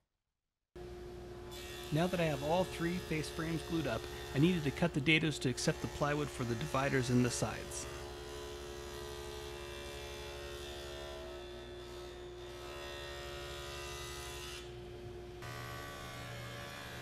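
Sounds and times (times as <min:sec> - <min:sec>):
table saw motor hum: 0:00.8 - 0:17.0.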